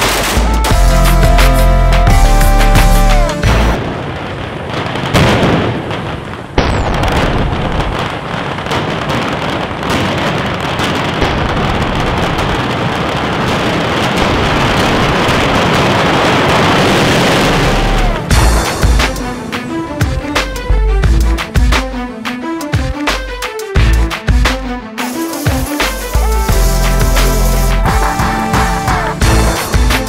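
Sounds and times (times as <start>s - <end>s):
firecrackers crackling rapidly: 0.0s - 20.6s, 23.9s - 30.0s.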